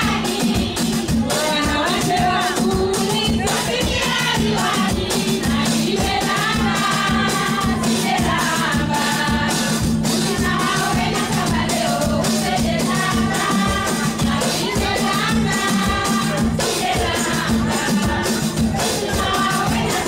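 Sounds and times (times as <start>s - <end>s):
steady beat: 0.0s - 20.0s
voices singing together: 0.0s - 20.0s.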